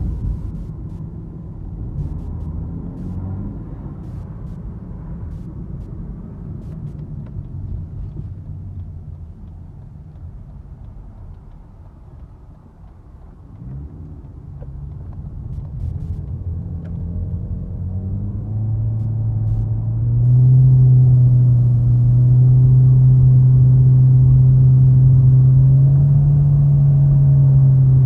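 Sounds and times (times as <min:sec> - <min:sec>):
car engine drone: 0:00.0 - 0:28.0.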